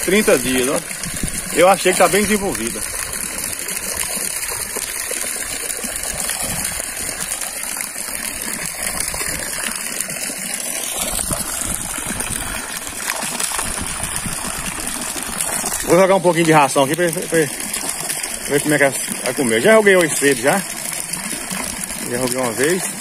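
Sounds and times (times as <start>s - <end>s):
water splashing into fish tank: 0.0s - 23.0s.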